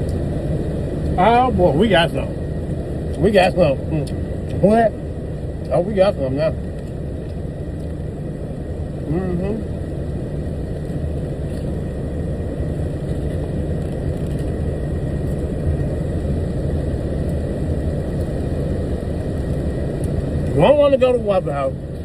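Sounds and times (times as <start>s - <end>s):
faint high whine: 0.0s - 22.0s
truck engine idling: 0.0s - 22.0s.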